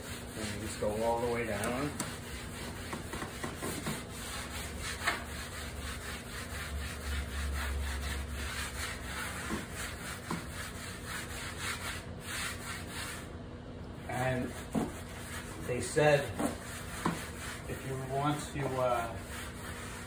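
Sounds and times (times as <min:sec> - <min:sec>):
eraser scrubbing chalkboard: 0:00.0 - 0:13.3, 0:14.1 - 0:20.0.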